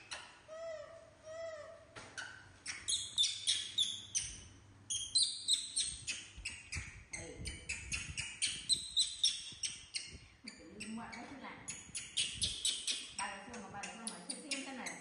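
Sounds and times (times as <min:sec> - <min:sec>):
baby monkeys squealing: 0:00.0 - 0:15.0.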